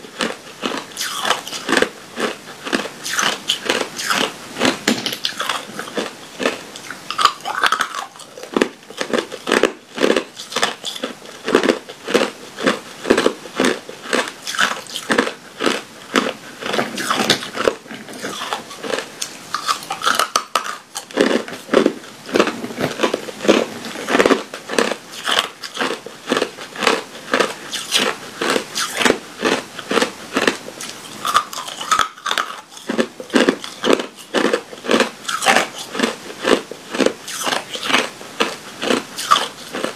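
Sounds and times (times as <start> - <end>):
ice cubes crunching between teeth: 0.1 - 39.9.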